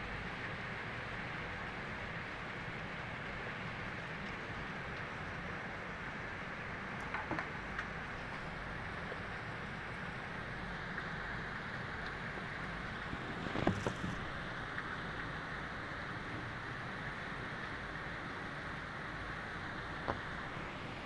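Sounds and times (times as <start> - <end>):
steady rain hiss: 0.0 - 21.0
rain taps: 0.1 - 21.0.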